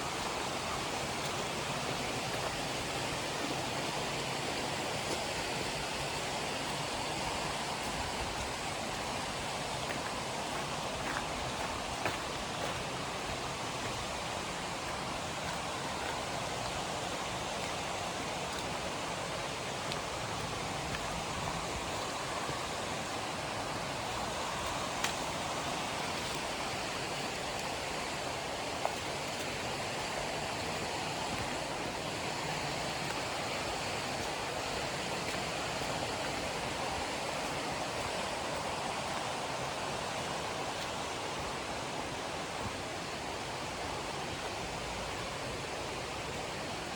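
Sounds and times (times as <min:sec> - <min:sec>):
river rushing over rocks: 0:00.0 - 0:46.9.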